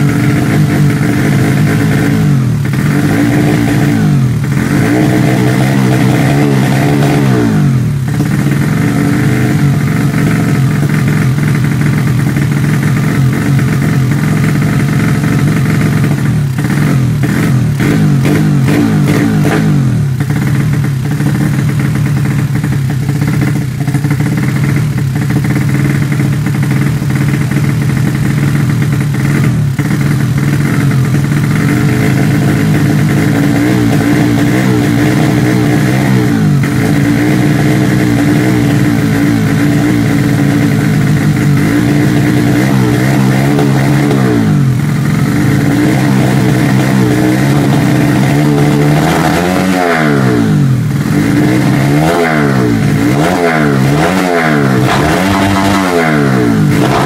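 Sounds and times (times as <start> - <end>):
single-cylinder engine revving: 0.0 - 57.0.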